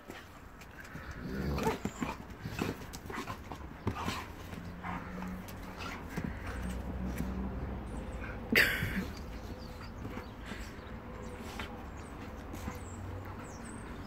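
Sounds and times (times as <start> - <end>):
dogs scuffling: 0.0 - 14.0.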